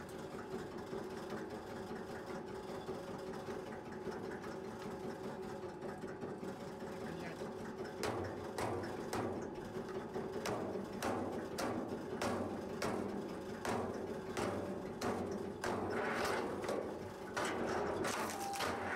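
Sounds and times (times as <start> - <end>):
log splitter motor hum: 0.0 - 18.9.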